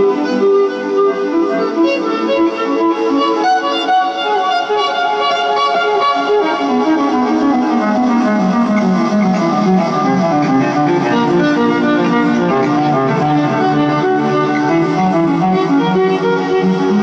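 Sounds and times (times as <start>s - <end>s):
electric guitar solo: 0.0s - 17.0s.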